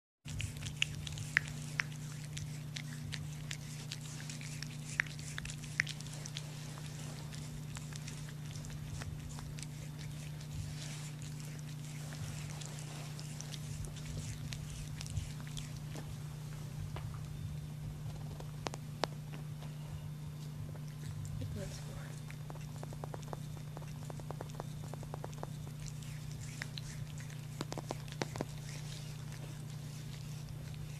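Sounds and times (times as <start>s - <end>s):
steady low hum: 0.3s - 30.9s
deer licking wet clicks and smacks: 0.4s - 16.2s, 21.0s - 30.9s.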